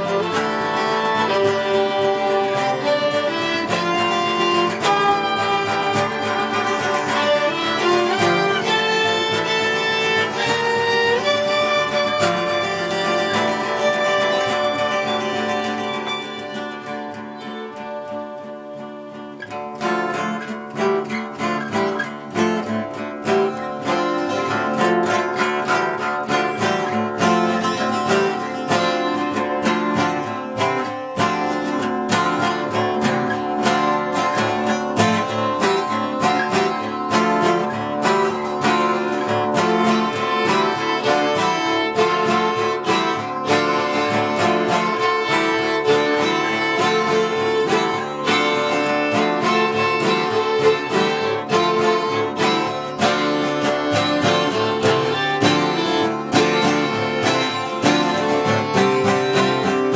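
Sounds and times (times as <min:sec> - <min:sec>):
acoustic guitar plucking: 0:00.0 - 0:59.9
bowed violin: 0:00.0 - 0:59.9.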